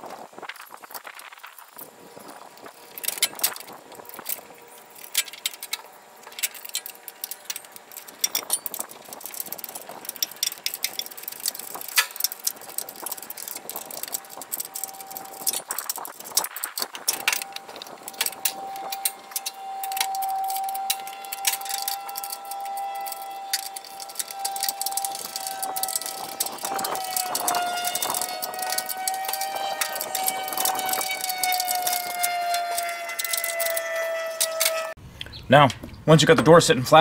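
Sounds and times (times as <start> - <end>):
steady high whine: 0.0 - 37.0
bolts and wrench clinking on metal: 2.8 - 34.9.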